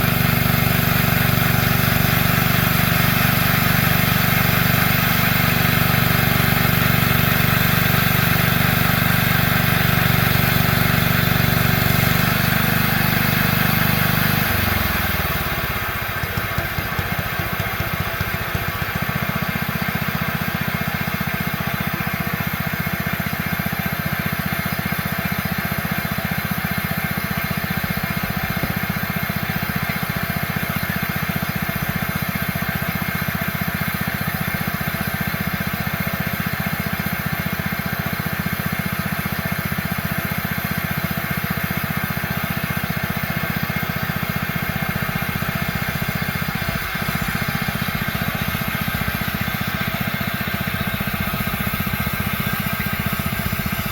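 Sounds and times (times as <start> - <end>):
bandsaw mill engine running: 0.0 - 53.9.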